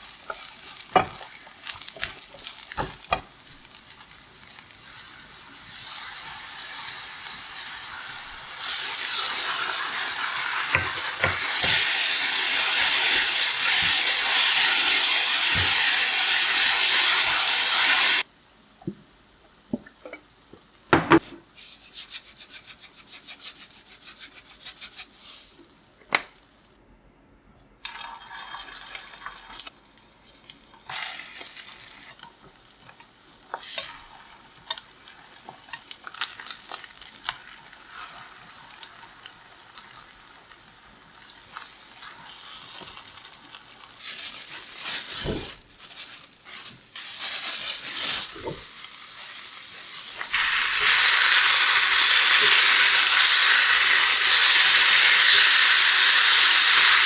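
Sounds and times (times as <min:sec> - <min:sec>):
loud steady sizzle: 0:00.0 - 0:19.7, 0:27.8 - 0:57.0
food frying in a pan: 0:00.0 - 0:25.7, 0:27.8 - 0:57.0.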